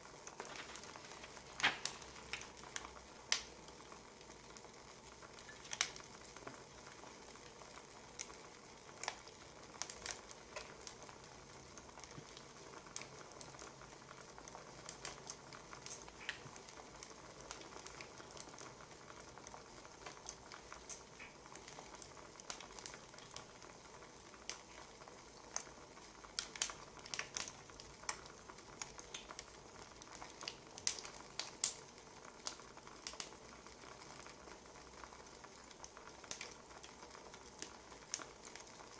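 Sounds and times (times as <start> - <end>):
faint steady hiss: 0.0 - 38.9
wood fire crackling: 0.0 - 38.9.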